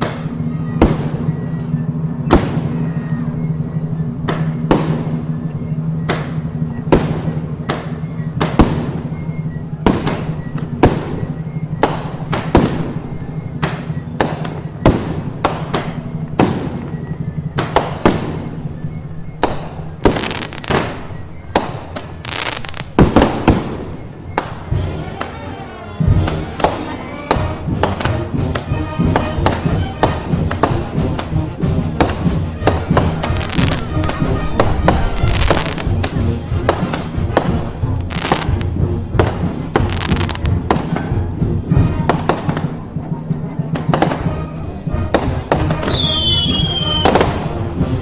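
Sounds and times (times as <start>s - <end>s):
firecrackers cracking: 0.0s - 1.5s, 2.2s - 3.2s, 4.2s - 43.1s, 43.7s - 48.0s.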